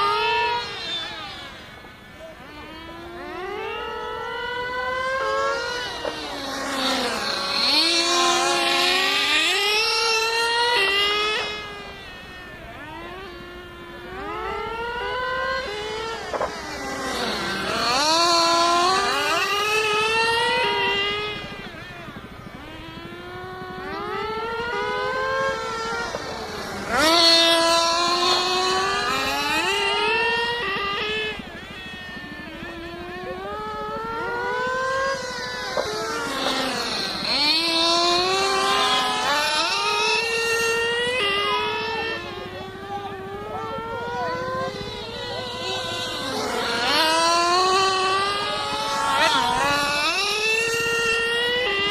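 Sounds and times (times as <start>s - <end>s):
model car engines revving: 0.0s - 51.9s.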